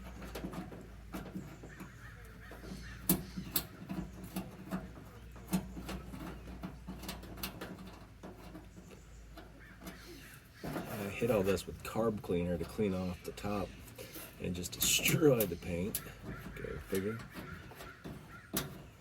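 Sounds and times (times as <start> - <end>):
hand tools clicking and tapping: 0.0 - 19.0.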